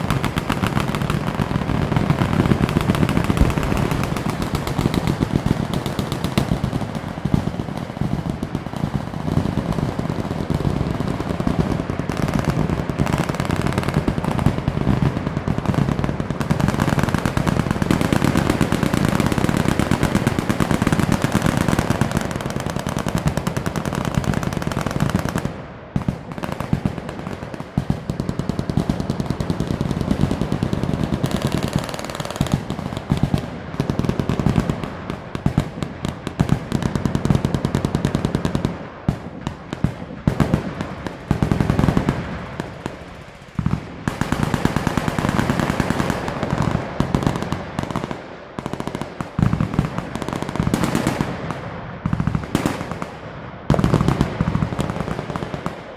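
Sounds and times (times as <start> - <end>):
machine guns firing: 0.0 - 55.8.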